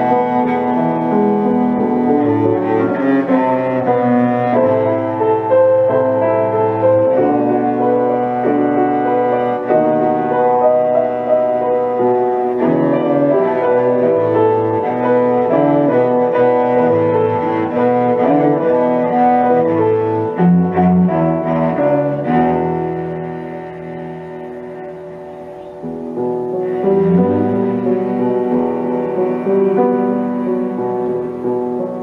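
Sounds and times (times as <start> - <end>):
cello bowing long notes: 0.0 - 32.0
piano playing: 0.0 - 32.0.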